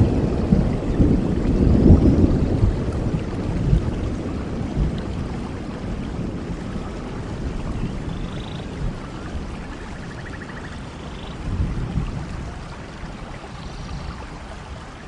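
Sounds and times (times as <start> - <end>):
low thunder rumble: 0.0 - 15.0
steady rain: 0.0 - 15.0.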